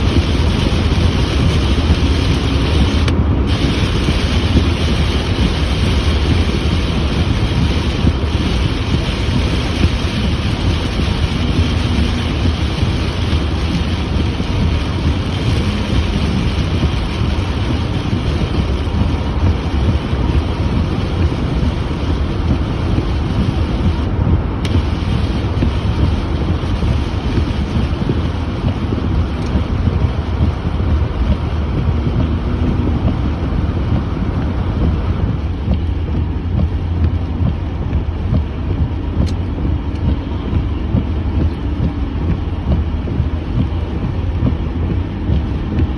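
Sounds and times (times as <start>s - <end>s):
heavy rain: 0.0s - 45.9s
strong wind: 0.0s - 45.9s
wind rumbling on microphone: 0.0s - 45.9s.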